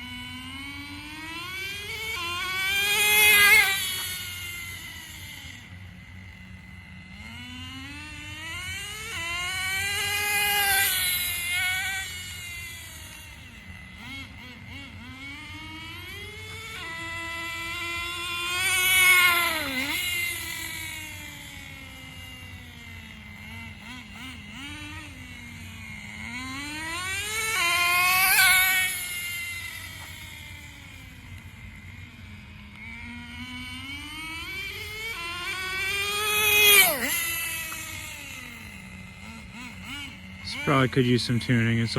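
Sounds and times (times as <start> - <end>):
rc car engine revving past: 0.0 - 41.9.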